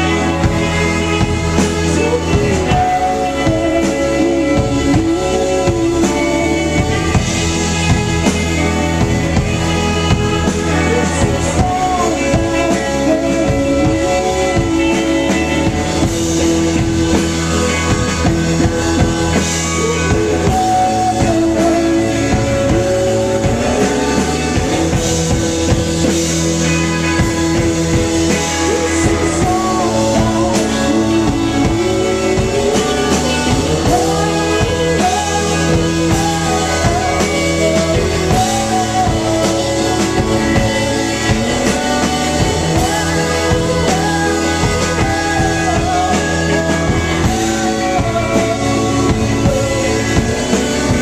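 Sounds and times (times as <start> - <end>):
woman singing: 0.0 - 25.0, 26.6 - 51.0
drum kit beat: 0.0 - 51.0
electric guitar: 0.0 - 51.0
organ chords: 0.0 - 51.0.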